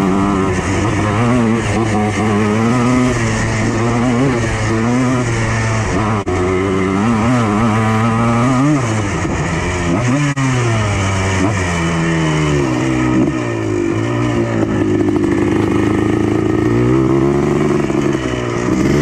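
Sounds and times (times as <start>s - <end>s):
two-stroke engine revving: 0.0s - 19.0s.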